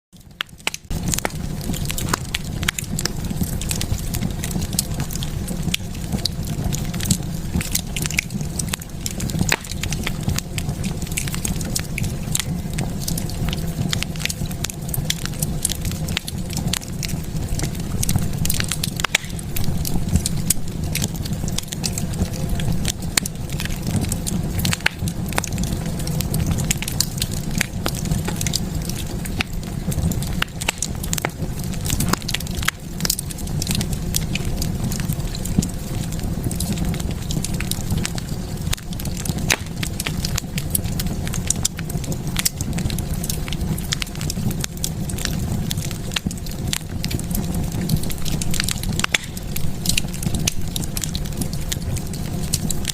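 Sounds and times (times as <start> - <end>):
wood fire crackling and popping: 0.2 - 52.9.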